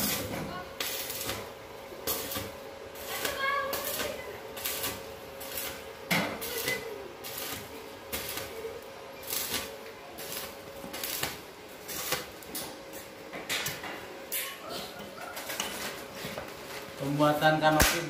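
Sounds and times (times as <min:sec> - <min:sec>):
arc welder crackling and hissing: 0:00.0 - 0:18.0.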